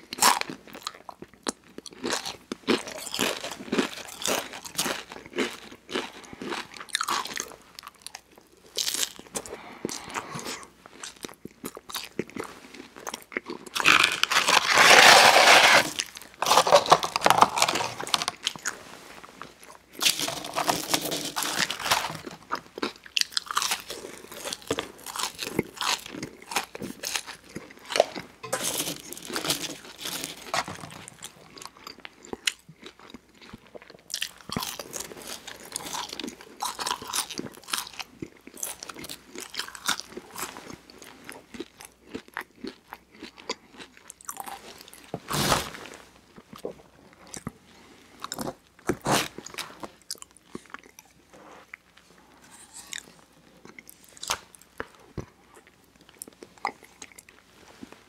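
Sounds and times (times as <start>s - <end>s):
person chewing crunchy fries: 0.0s - 58.0s.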